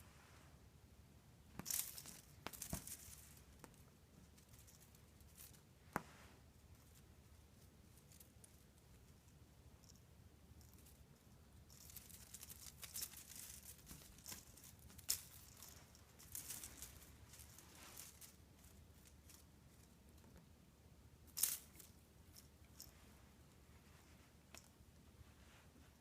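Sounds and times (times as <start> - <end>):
cat rustling and crinkling: 1.4 - 9.4, 10.6 - 20.5, 21.3 - 26.0.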